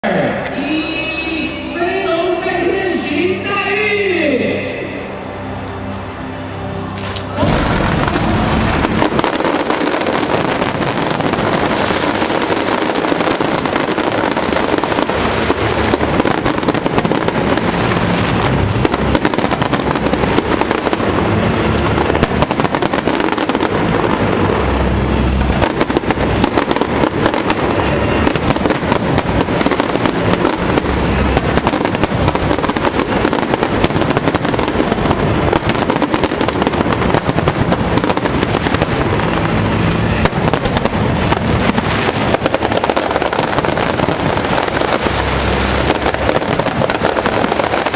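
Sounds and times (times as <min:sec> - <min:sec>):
fireworks crackling bursts: 0:00.0 - 0:47.9
fireworks deep booms: 0:07.3 - 0:47.9.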